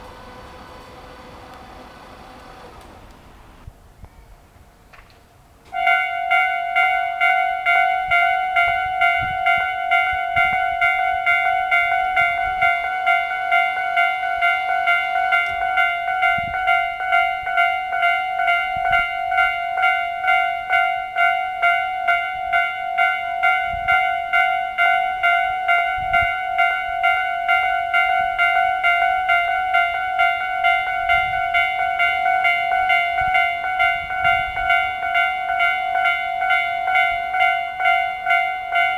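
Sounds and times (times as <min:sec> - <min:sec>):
level crossing warning bells: 0:05.7 - 0:38.9.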